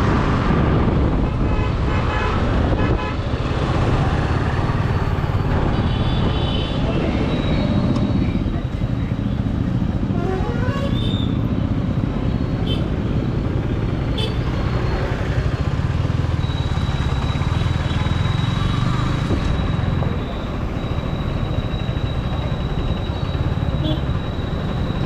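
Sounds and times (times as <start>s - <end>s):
other vehicles: 0.0s - 25.0s.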